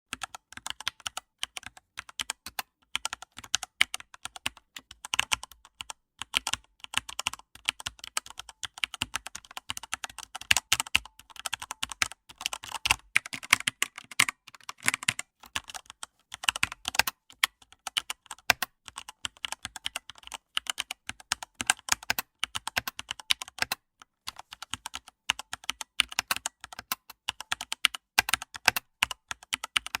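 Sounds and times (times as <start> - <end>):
typing on computer keyboard: 0.1 - 30.0.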